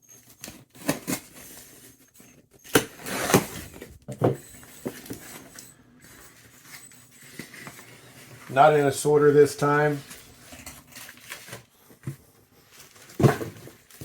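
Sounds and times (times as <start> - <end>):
cardboard and plastic rustling: 0.0 - 14.0.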